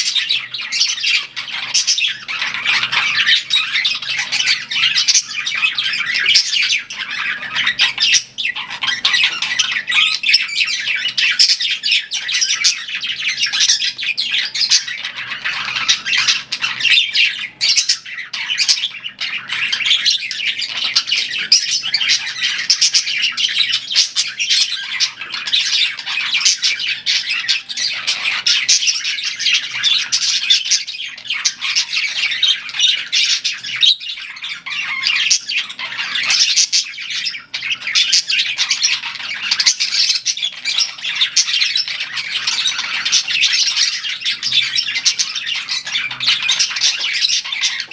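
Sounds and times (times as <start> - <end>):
budgerigars chirping and squawking: 0.0 - 47.9.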